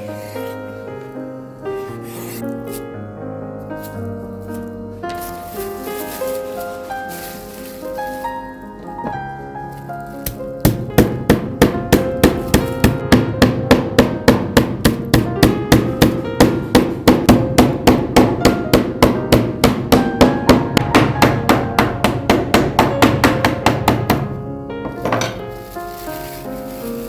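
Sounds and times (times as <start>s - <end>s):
background music: 0.0s - 27.0s.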